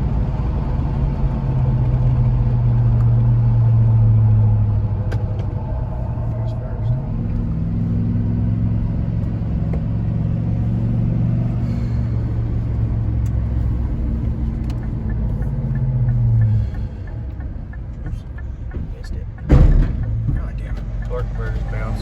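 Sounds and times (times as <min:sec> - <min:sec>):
pickup truck engine hum: 0:00.0 - 0:22.0.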